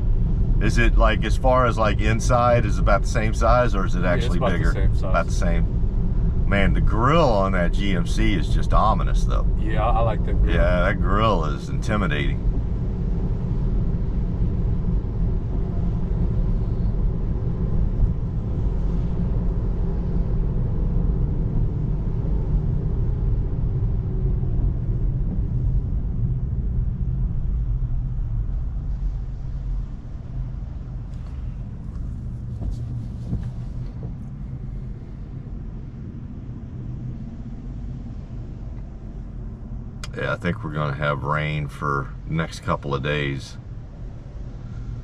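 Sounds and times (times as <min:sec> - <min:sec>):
tyre and road noise in cabin: 0:00.0 - 0:45.0.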